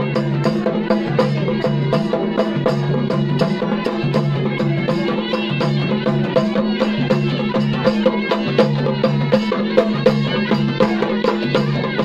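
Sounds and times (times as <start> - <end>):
folk music with drone: 0.0 - 12.0.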